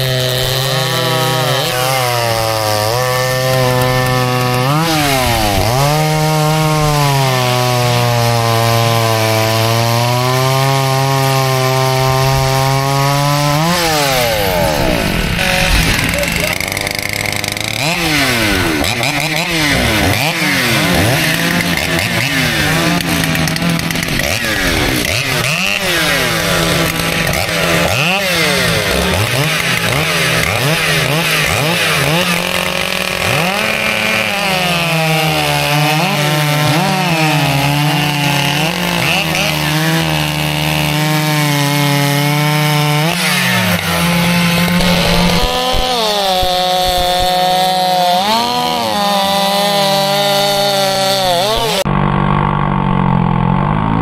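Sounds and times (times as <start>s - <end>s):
chainsaw cutting through timber: 0.0s - 54.0s
chainsaws revving: 0.0s - 54.0s.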